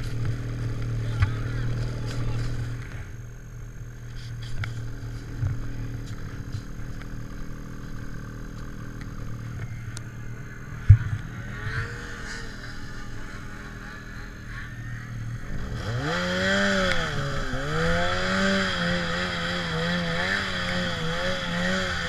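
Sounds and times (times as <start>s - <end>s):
snowmobile engine idling: 0.0s - 22.0s.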